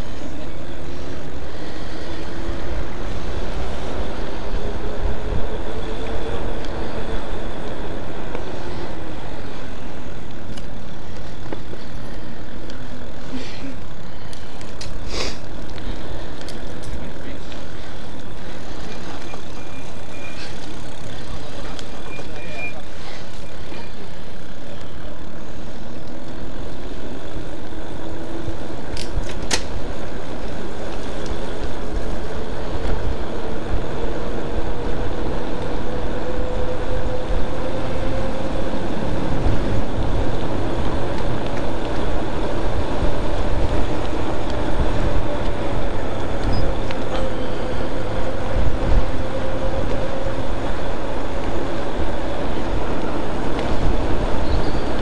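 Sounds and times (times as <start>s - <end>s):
electric bike motor whining: 0.0s - 55.0s
wind and tyre noise: 0.0s - 55.0s.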